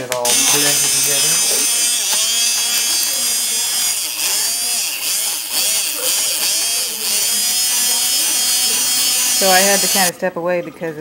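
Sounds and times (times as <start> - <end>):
immersion blender running: 0.0 - 10.1.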